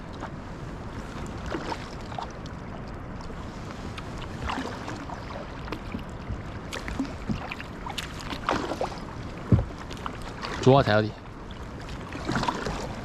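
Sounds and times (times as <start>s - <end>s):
light wind: 0.0s - 13.0s
rushing water: 0.0s - 13.0s
paddle splashing in water: 1.0s - 13.0s.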